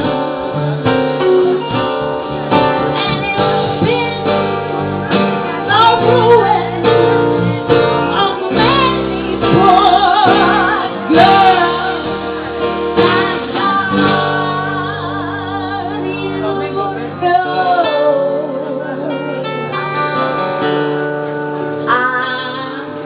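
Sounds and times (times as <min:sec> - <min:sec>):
acoustic guitar: 0:00.0 - 0:23.0
woman singing with vibrato: 0:02.5 - 0:19.8, 0:21.8 - 0:23.0.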